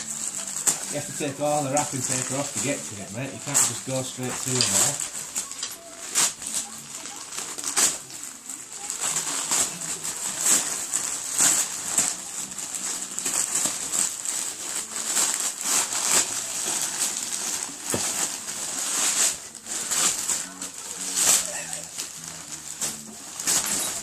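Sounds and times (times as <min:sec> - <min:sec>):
wrapping paper tearing: 0:00.0 - 0:24.0.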